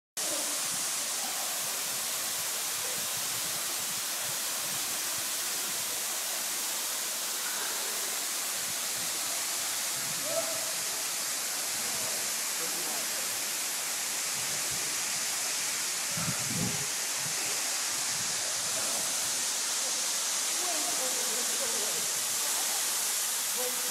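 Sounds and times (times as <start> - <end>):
waterfall rushing: 0.2 - 23.9.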